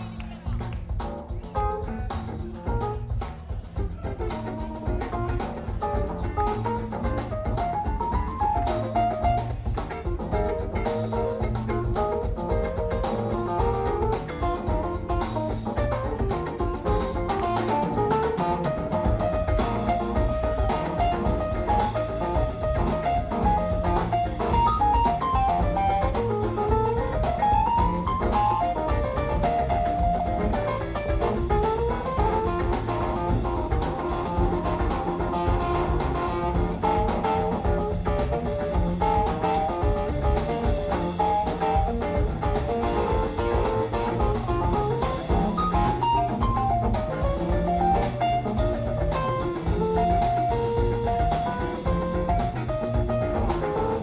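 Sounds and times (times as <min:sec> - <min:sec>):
bass: 0:00.0 - 0:54.0
drum kit: 0:00.0 - 0:54.0.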